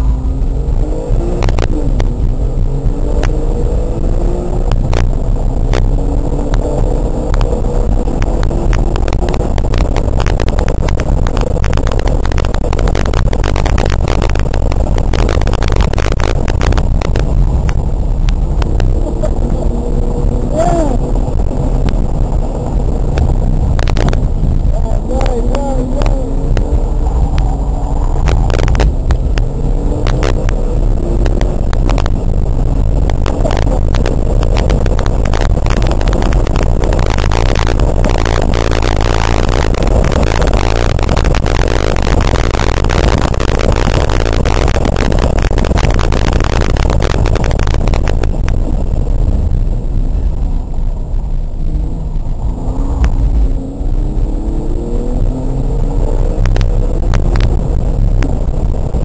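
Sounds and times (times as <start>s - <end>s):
car engine and road noise: 0.0s - 59.0s
sharp clicks and rattles: 0.0s - 59.0s.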